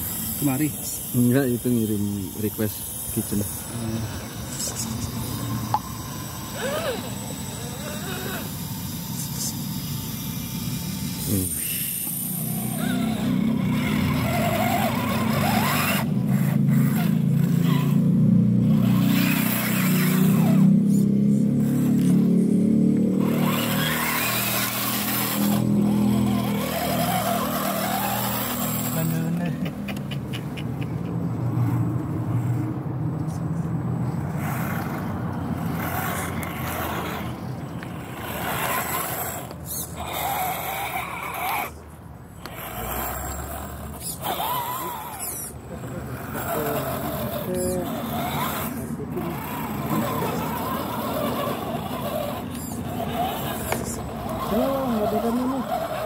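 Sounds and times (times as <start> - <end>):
toy car electric motor and gears: 0.0 - 56.0.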